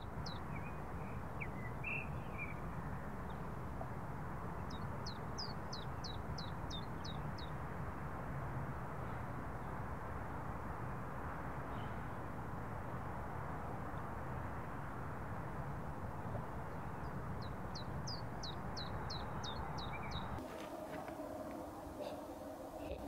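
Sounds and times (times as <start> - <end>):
outdoor background noise: 0.0 - 23.0
songbird chirping: 0.0 - 23.0.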